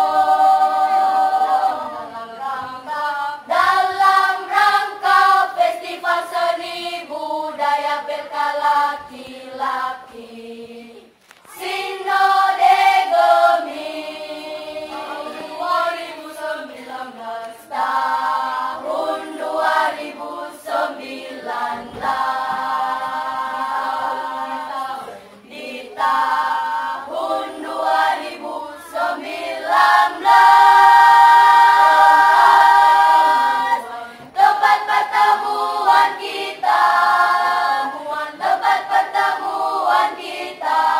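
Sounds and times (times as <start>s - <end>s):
children's choir singing unaccompanied: 0.0s - 40.9s.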